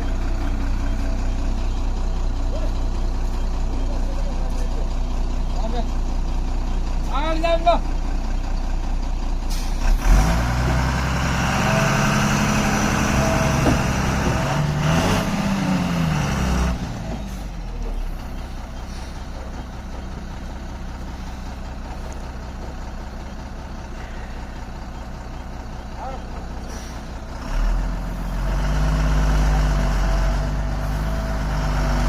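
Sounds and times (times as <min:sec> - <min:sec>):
diesel truck engine: 0:00.0 - 0:32.0.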